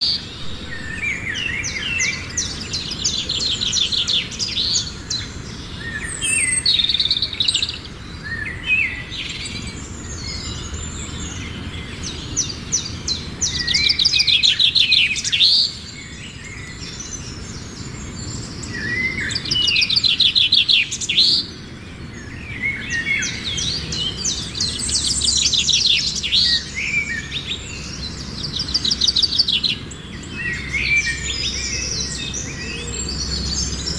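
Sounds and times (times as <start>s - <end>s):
flock of birds chirping: 0.0s - 33.9s.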